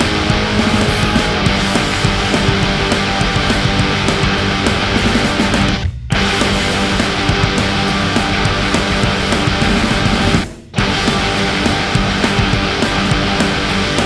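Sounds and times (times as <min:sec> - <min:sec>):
loud distorted bass-heavy music: 0:00.0 - 0:14.0.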